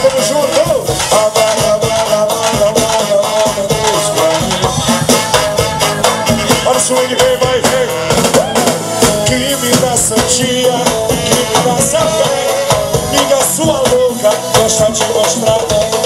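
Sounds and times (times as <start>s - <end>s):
drum kit beat: 0.0s - 16.0s
live band music: 0.0s - 16.0s
saxophone lines: 0.0s - 16.0s.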